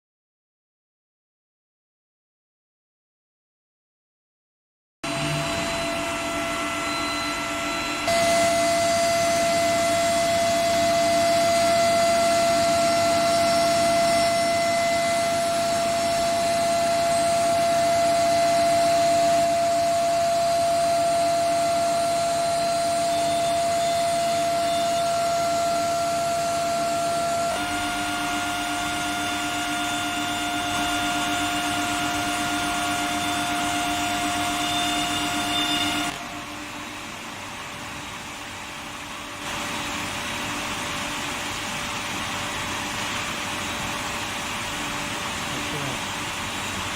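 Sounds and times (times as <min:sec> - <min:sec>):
machine high whine: 0:05.0 - 0:46.9.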